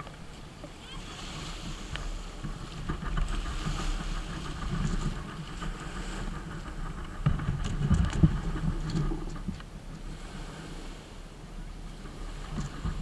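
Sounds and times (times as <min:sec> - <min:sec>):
water rushing against hull: 0:00.0 - 0:13.0
waves knocking on hull: 0:00.0 - 0:13.0
wind buffeting microphone: 0:00.0 - 0:13.0.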